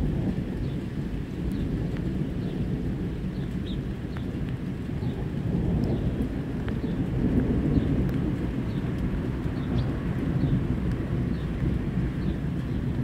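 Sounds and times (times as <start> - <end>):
distant thunder rumbling: 0.0 - 13.0.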